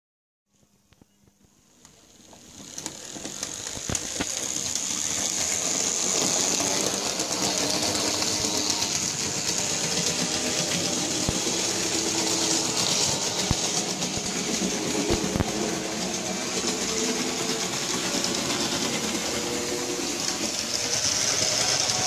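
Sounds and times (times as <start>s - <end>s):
model train motor whining: 1.8s - 22.0s
wheels clicking on model track: 1.8s - 22.0s.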